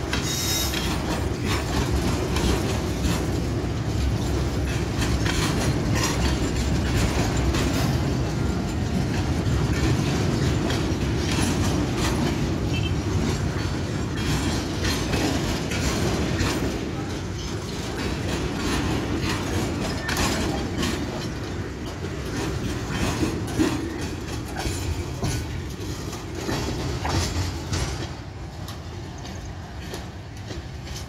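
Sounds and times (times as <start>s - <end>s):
train rumbling past: 0.0s - 31.0s
train wheels clicking over rail joints: 0.0s - 31.0s.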